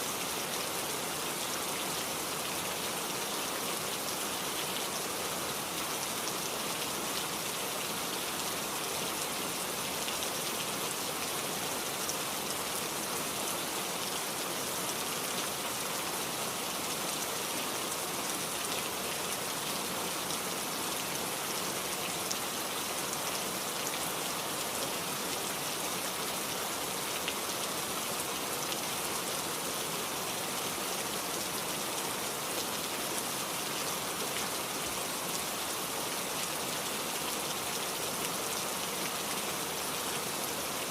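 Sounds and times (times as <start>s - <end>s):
heavy rain on hard surface: 0.0s - 40.9s.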